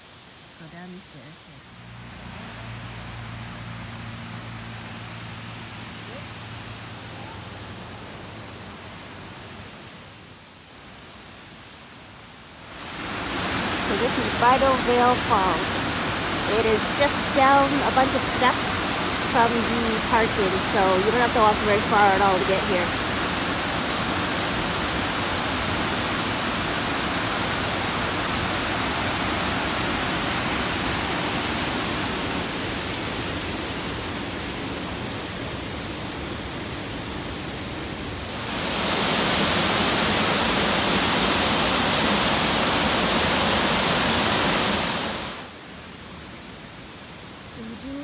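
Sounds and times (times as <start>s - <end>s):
waterfall rushing: 1.6s - 11.8s, 12.6s - 47.4s.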